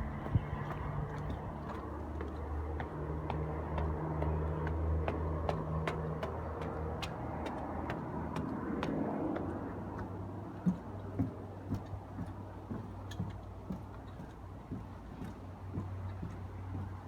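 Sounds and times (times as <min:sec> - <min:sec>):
footsteps on hard stairs: 0:00.0 - 0:17.0.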